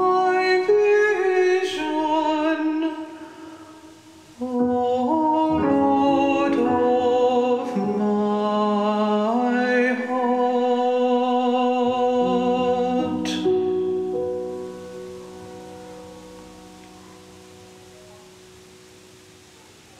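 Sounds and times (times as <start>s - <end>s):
hymn sung slowly: 0.0s - 19.9s.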